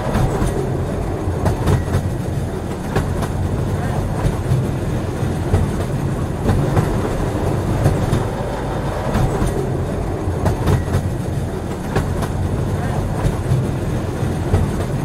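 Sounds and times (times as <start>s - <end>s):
train wheels rumbling on rails: 0.0s - 15.0s
wheels clacking over rail joints: 0.0s - 15.0s.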